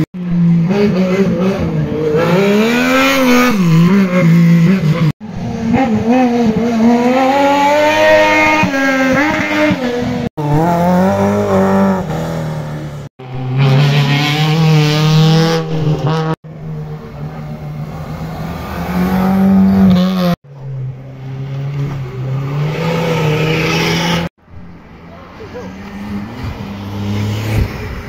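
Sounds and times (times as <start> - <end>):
race car engines at full throttle: 0.0 - 28.0.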